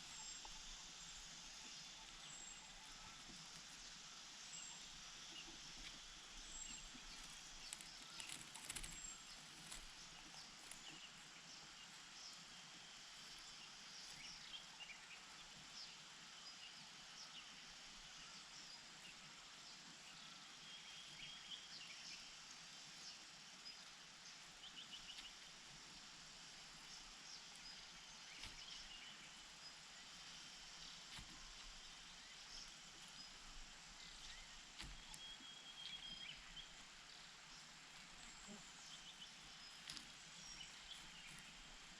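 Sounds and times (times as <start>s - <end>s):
steady hiss: 0.0s - 41.9s.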